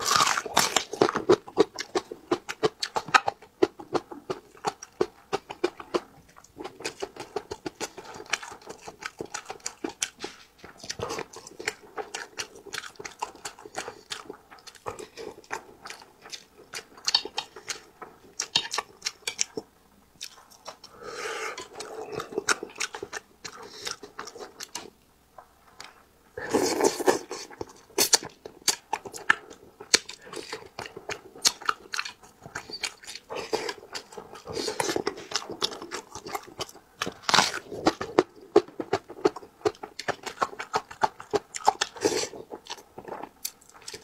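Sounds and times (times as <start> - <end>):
wet chewing and lip smacking: 0.0 - 25.0, 25.8 - 44.0.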